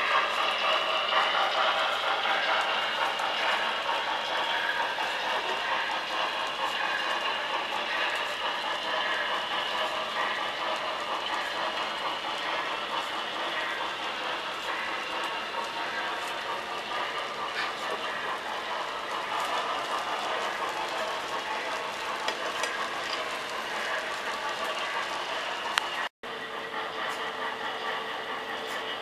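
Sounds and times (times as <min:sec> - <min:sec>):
model train rolling rattle: 0:00.0 - 0:29.0
small wheels clicking over rails: 0:00.0 - 0:29.0.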